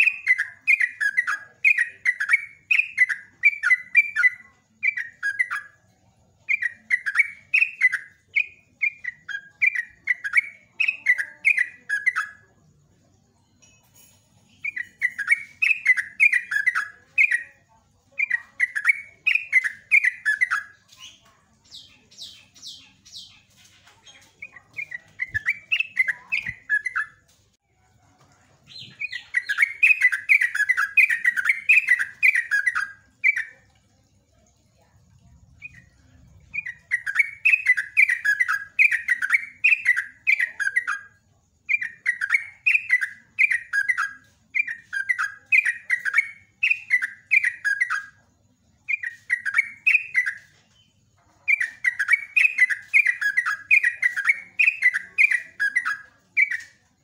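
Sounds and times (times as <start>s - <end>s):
bird singing bubbling chirps: 0.0s - 57.0s.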